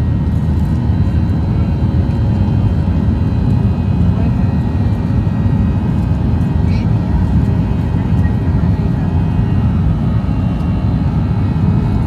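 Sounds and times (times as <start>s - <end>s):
jet engine deep rumble: 0.0s - 12.0s
thin constant engine tones: 0.0s - 12.0s.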